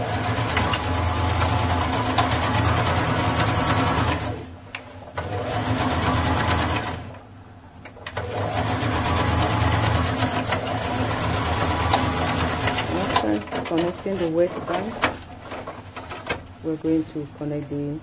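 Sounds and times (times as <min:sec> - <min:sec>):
sewing machine stitching: 0:00.0 - 0:07.2, 0:08.0 - 0:16.5.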